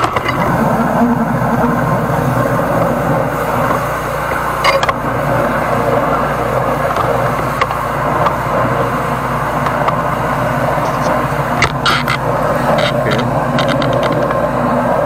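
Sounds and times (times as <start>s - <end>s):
high-pressure water hiss: 0.0s - 15.0s
sewer jetter pump humming: 0.0s - 15.0s.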